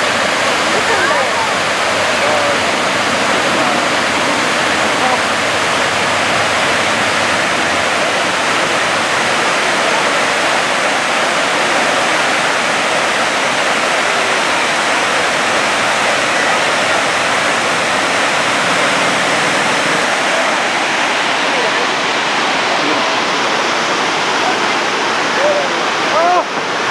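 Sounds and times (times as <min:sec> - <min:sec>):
waterfall rushing over rocks: 0:00.0 - 0:26.9.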